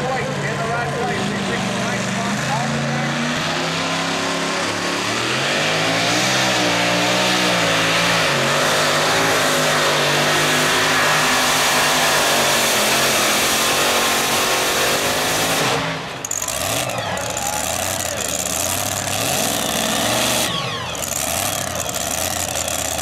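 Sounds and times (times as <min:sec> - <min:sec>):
truck engine at full throttle: 0:00.0 - 0:23.0.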